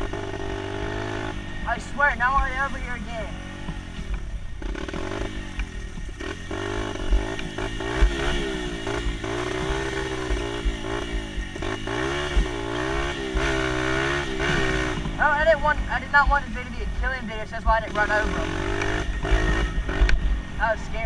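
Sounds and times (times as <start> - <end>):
dirt bike engine revving: 0.0 - 21.0
low thuds: 0.0 - 21.0.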